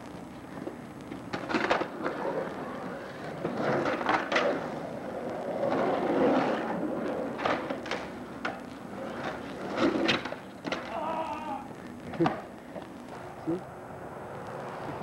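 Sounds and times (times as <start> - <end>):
skateboard wheels rolling on concrete: 0.0 - 15.0
skateboard clacks: 0.3 - 13.2.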